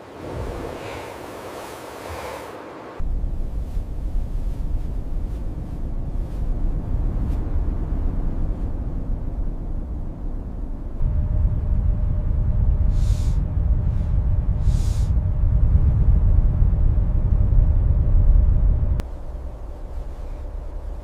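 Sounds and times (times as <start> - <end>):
blizzard wind blowing: 0.0 - 21.0
hissing wind gusts: 0.0 - 21.0.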